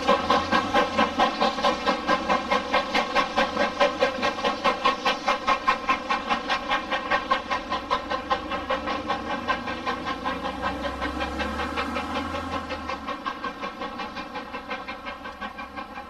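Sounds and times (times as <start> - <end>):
steam locomotive chuffing: 0.0 - 16.0.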